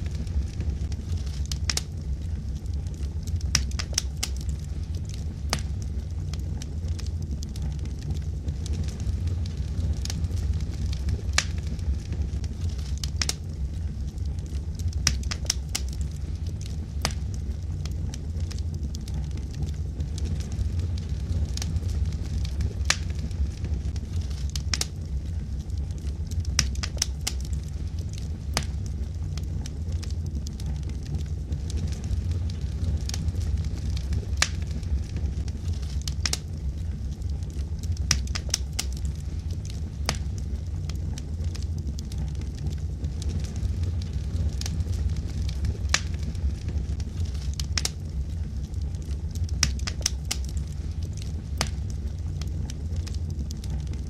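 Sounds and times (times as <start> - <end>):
fire rumbling in fireplace: 0.0 - 54.0
wood crackling and popping: 0.0 - 54.0.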